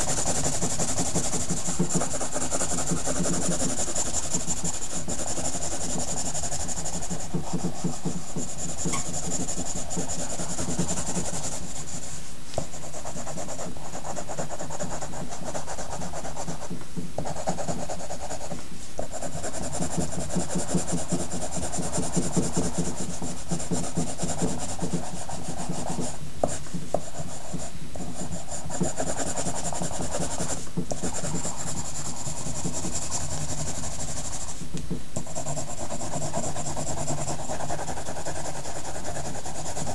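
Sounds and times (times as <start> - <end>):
pencil scratching on paper: 0.0 - 34.6, 35.2 - 39.9
steady hum: 0.0 - 39.9.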